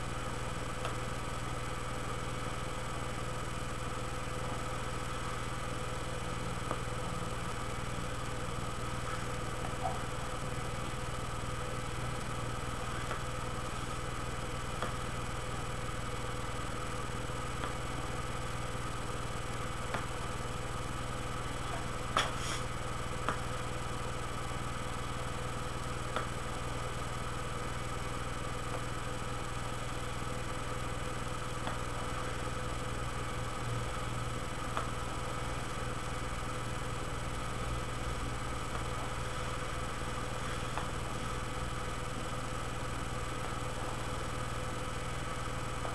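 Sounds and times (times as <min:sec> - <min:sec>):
steady mechanical hum: 0:00.0 - 0:45.9.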